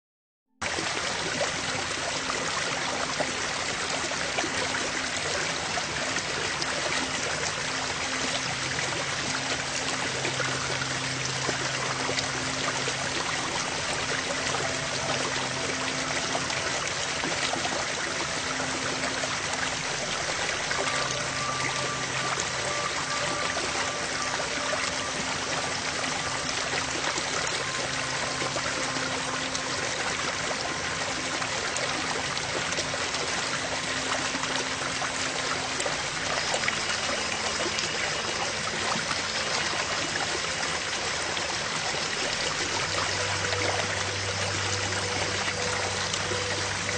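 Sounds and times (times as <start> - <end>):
running water rushing: 0.6 - 46.9
faint soft sustained tones: 1.3 - 46.9.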